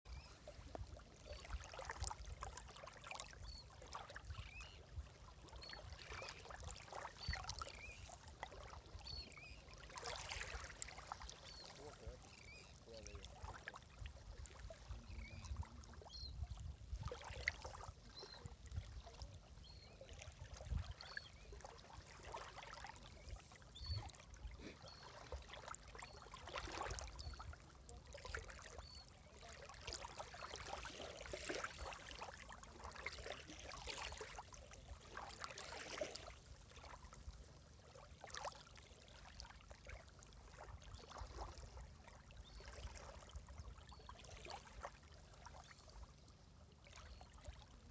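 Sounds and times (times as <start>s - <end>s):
sea water lapping and splashing: 0.1s - 47.9s.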